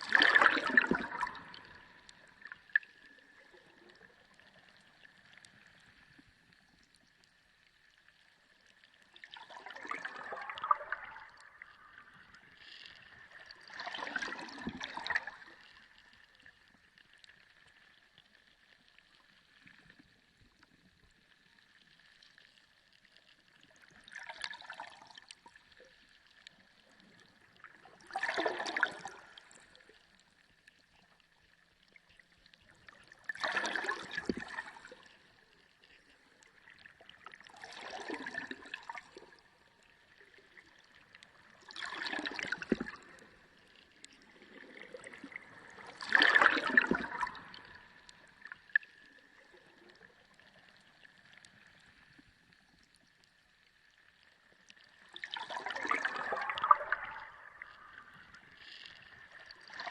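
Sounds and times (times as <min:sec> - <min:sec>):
sea water gurgling and sloshing: 0:00.0 - 0:59.9.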